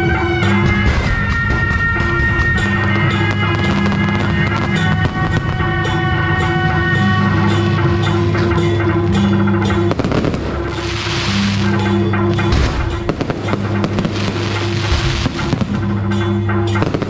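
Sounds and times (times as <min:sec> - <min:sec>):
music with bass and drums: 0:00.0 - 0:17.0.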